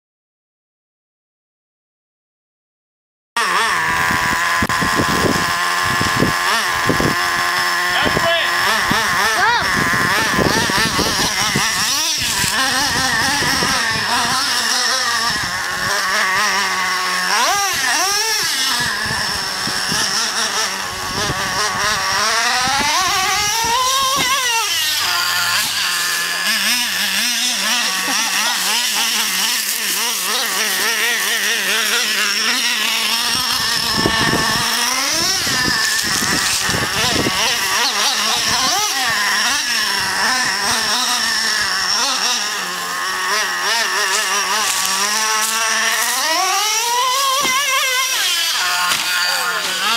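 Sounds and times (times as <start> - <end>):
small nitro engine revving: 3.4 - 49.9.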